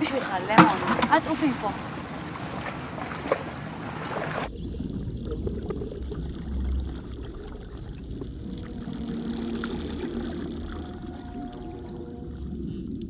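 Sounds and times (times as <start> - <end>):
surface water lapping: 0.0 - 12.8
low bubbly underwater rumble: 0.0 - 13.0.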